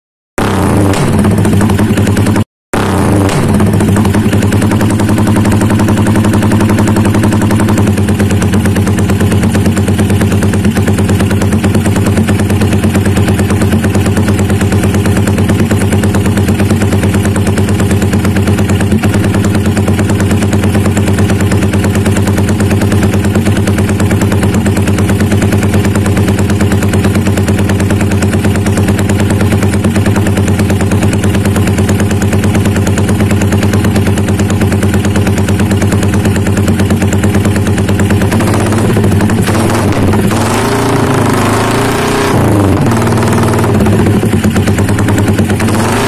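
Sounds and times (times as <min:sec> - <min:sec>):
motorcycle engine idling choppily: 0:00.4 - 0:46.0.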